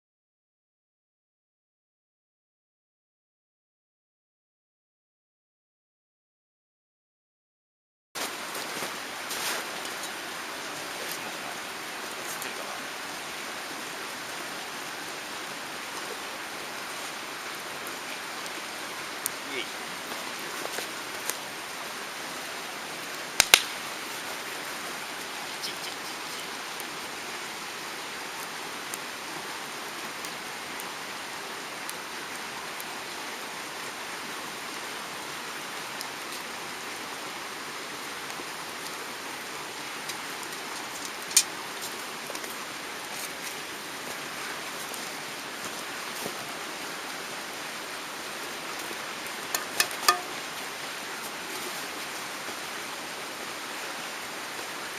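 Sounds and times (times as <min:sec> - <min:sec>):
stream flowing over rocks: 0:08.2 - 0:54.9.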